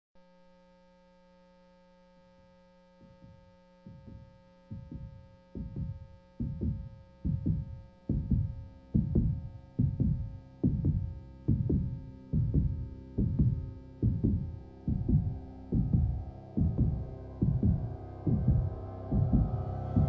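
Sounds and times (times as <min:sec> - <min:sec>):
steady electronic hum: 0:00.2 - 0:20.0
heartbeat-like double thump: 0:03.0 - 0:20.0.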